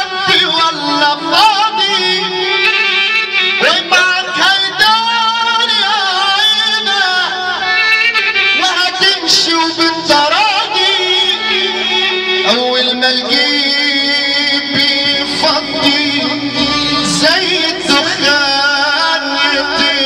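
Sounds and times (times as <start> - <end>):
instrumental backing music: 0.0 - 20.0
man singing into microphone: 0.0 - 20.0.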